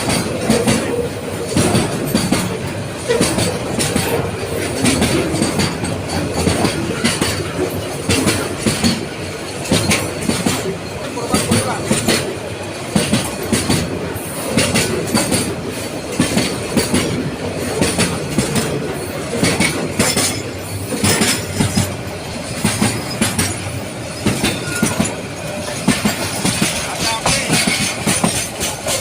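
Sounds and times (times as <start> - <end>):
freight train rumbling past: 0.0 - 29.0
wheels clanking on rail joints: 0.0 - 29.0.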